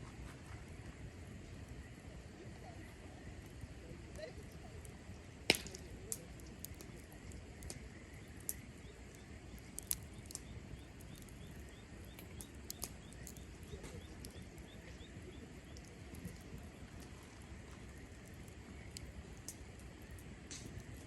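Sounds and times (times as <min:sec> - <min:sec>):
low rumble of burning fire: 0:00.0 - 0:21.0
campfire crackling and popping: 0:00.2 - 0:21.0.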